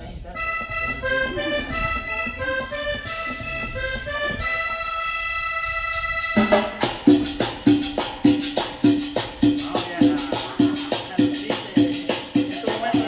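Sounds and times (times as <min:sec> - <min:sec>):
accordion cumbia music: 0:00.1 - 0:13.0.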